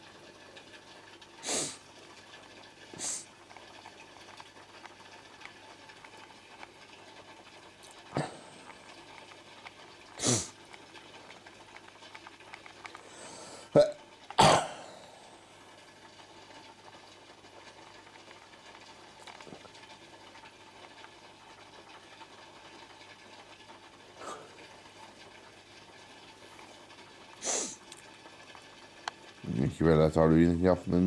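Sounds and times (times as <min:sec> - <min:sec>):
aquarium bubbling and pump hum: 0:00.0 - 0:31.0.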